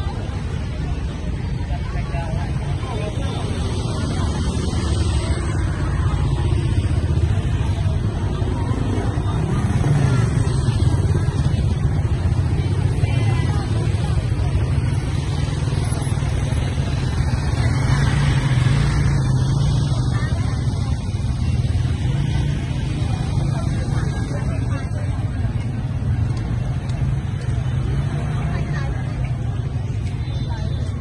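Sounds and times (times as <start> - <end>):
scooter and motorbike engines: 0.0 - 31.0.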